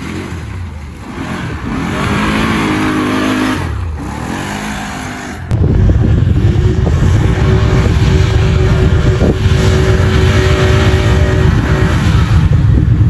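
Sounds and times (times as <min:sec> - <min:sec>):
off-road vehicle engine revving: 0:00.0 - 0:13.0
rough droning engine: 0:00.0 - 0:13.0.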